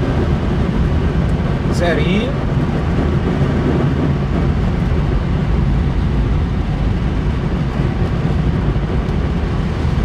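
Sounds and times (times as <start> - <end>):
airflow rushing around cockpit: 0.0 - 10.0.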